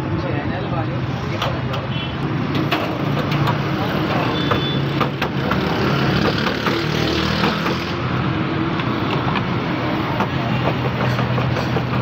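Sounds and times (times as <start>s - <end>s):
roadside traffic: 0.0s - 12.0s.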